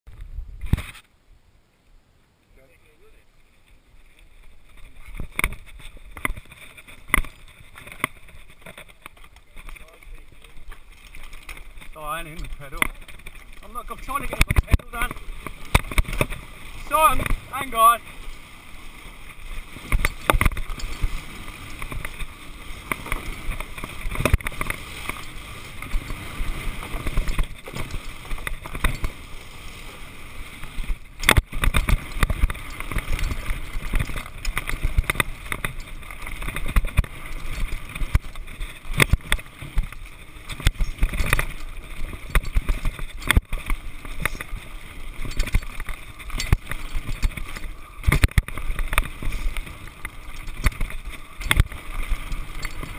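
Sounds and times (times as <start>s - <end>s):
tyre noise on dirt: 0.1s - 1.2s, 3.4s - 52.9s
bike rattling and knocking: 4.6s - 52.9s.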